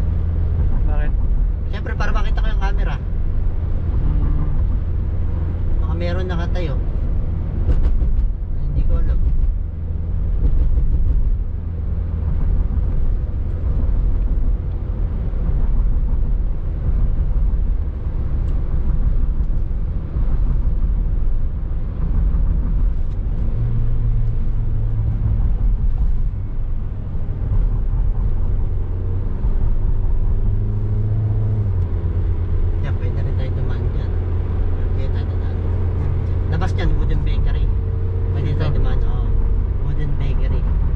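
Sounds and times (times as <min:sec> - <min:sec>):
engine hum: 0:00.0 - 0:40.9
road and engine rumble: 0:00.0 - 0:40.9.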